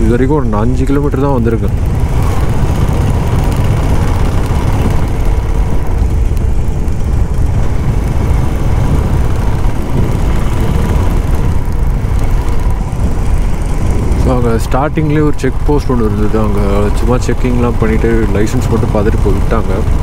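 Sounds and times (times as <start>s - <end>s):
motorcycle engine drone: 0.0s - 20.0s
wind and road noise: 0.0s - 20.0s.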